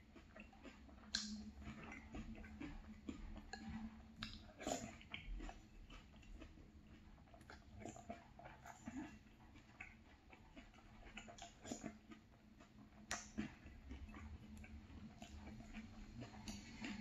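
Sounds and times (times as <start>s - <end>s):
chewing soggy cereal: 0.0s - 17.0s.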